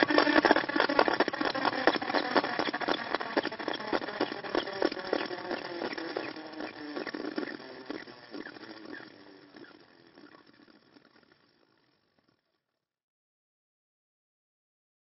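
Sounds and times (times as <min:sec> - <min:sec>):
spinning wheel ticking and rattling: 0:00.0 - 0:12.5.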